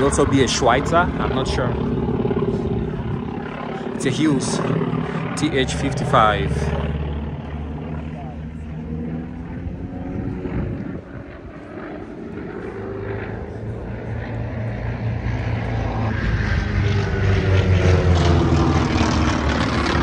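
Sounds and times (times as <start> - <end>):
propeller aircraft engine droning: 0.0 - 20.0.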